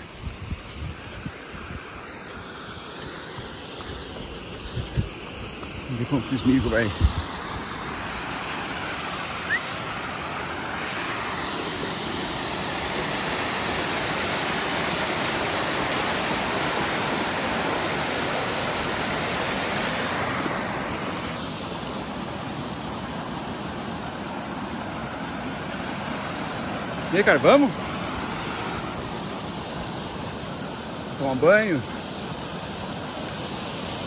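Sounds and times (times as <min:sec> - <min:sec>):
stream water splashing over stones: 0:01.9 - 0:34.0.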